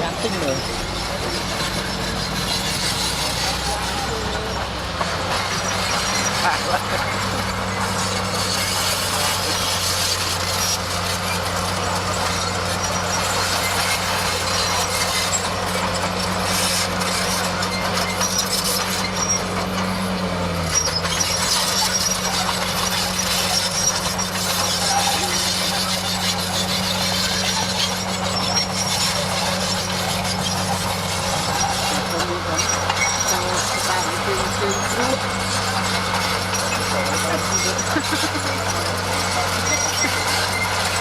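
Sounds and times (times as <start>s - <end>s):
bulldozer diesel engine running: 0.0s - 41.0s
clatter of tracks: 0.0s - 41.0s.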